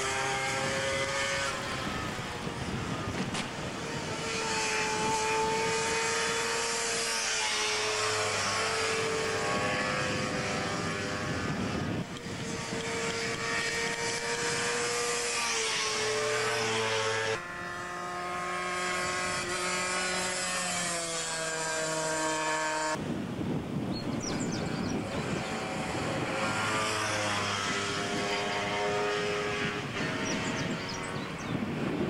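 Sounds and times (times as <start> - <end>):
motorcycle engines at high revs: 0.0 - 32.0.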